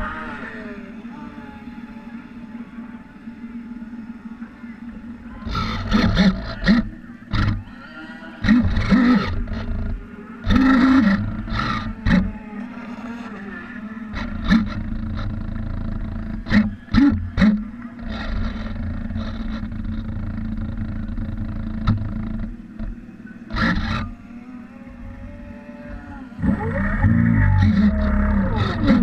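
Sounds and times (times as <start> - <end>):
model boat motor humming: 0.0 - 29.0.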